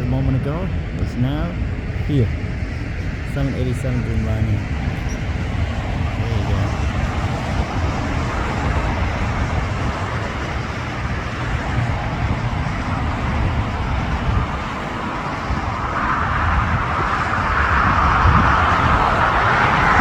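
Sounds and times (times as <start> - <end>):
road traffic rumble: 0.0 - 20.0
rushing roar: 0.0 - 20.0.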